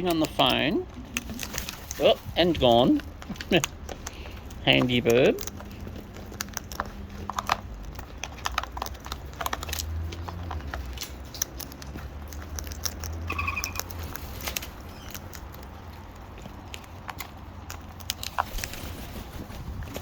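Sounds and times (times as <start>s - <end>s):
birds cracking seed: 0.0s - 20.0s.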